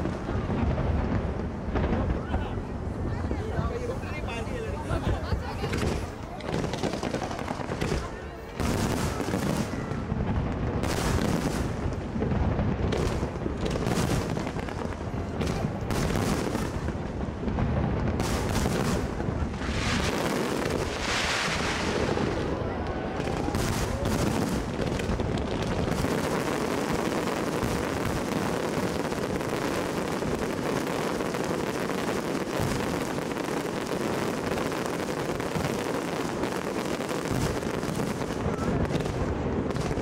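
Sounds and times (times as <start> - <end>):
firework crackling: 0.0 - 40.0
fireworks bangs and booms: 0.0 - 40.0.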